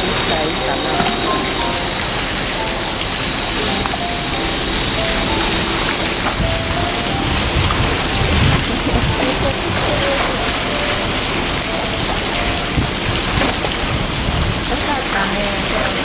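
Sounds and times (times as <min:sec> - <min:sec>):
pool water rushing and splashing: 0:00.0 - 0:16.0.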